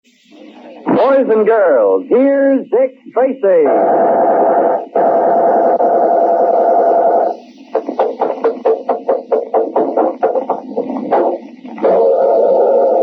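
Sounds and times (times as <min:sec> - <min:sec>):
steady buzzing tone: 0:00.0 - 0:13.0.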